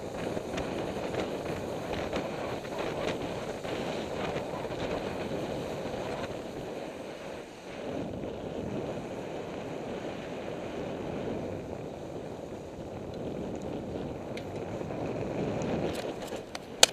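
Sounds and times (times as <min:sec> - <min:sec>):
skis gliding on snow: 0:00.0 - 0:16.9
wind rushing over microphone: 0:00.0 - 0:16.9.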